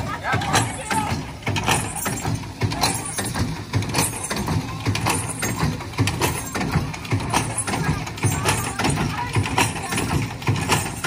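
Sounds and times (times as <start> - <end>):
hand pump knocking: 0.0 - 11.0.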